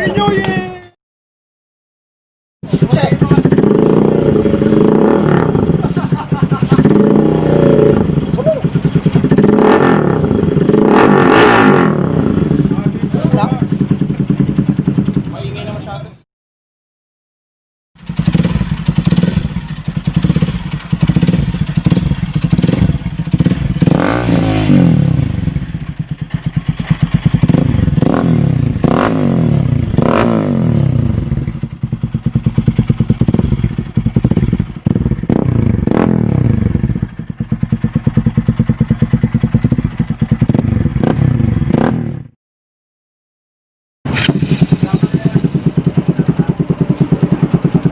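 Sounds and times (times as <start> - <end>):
motorcycle engine idling and revving: 0.0 - 0.9, 2.6 - 16.2, 18.0 - 42.4, 44.1 - 47.9.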